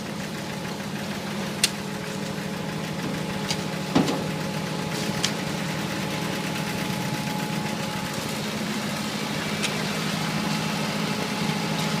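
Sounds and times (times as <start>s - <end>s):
construction machinery engine running: 0.0s - 12.0s.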